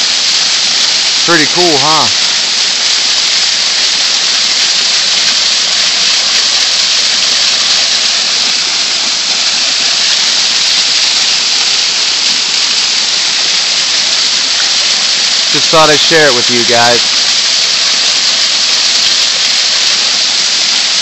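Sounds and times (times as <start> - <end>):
waterfall splashing on rocks: 0.0 - 21.0.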